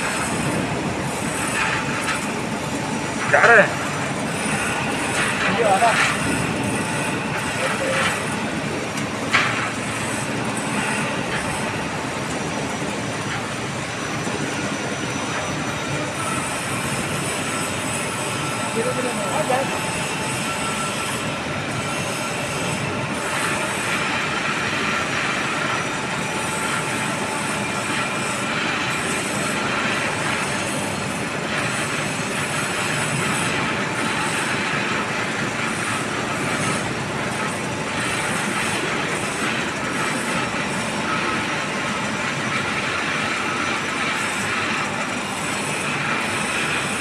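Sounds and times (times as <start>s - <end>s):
heavy workshop machinery running: 0.0s - 47.0s.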